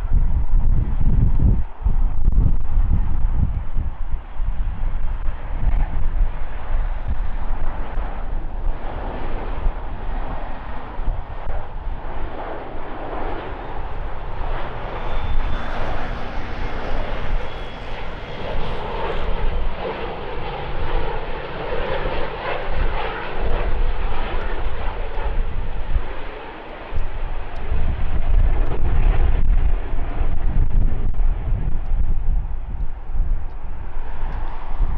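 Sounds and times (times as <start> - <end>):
jet engines rumbling: 0.0 - 34.9.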